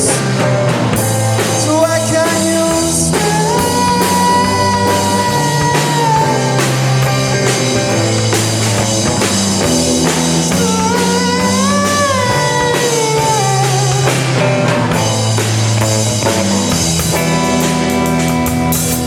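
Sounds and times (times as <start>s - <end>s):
rock band playing live: 0.0s - 19.0s
sliding melodic guitar line: 0.0s - 19.0s.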